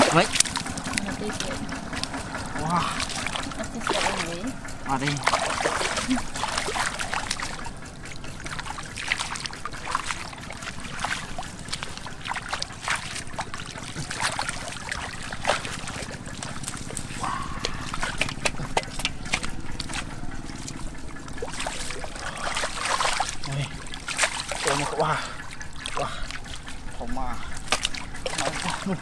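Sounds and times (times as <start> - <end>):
low steady hum: 0.0 - 29.0
water splashing and trickling: 0.0 - 29.0.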